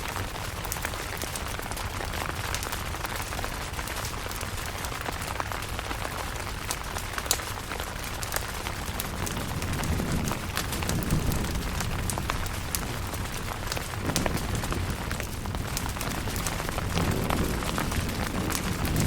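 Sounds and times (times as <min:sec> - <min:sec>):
rain on a tent: 0:00.0 - 0:19.0.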